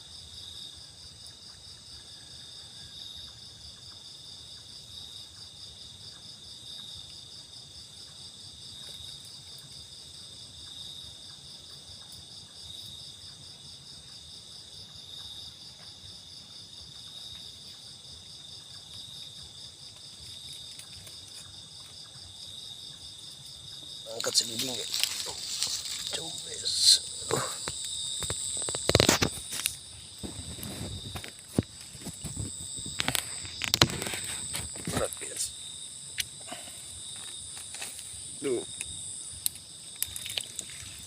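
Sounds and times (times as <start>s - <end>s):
crickets and insects trilling: 0.0s - 41.0s.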